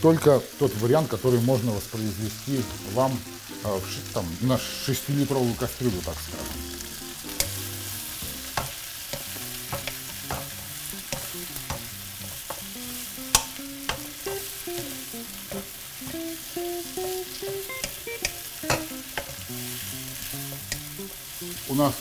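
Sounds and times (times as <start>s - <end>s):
peppers sizzling in oil: 0.0s - 22.0s.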